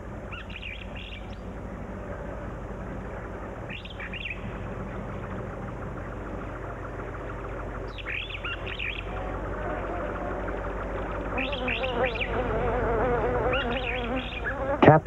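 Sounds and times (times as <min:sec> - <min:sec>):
birds chirping: 0:00.0 - 0:15.0
wasp wings buzzing: 0:00.4 - 0:15.0.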